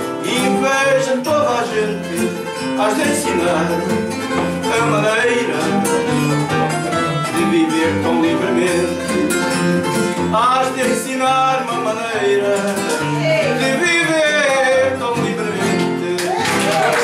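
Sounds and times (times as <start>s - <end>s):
plucked guitar folk music: 0.0s - 17.0s.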